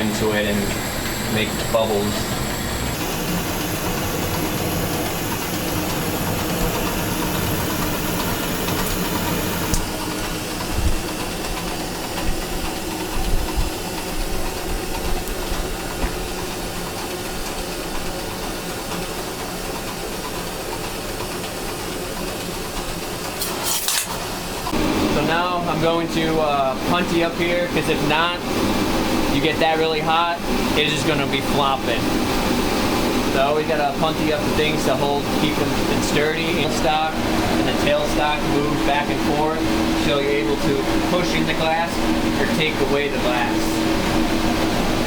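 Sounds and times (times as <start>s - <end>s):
torch flame hissing: 0.0s - 16.8s, 23.1s - 45.0s.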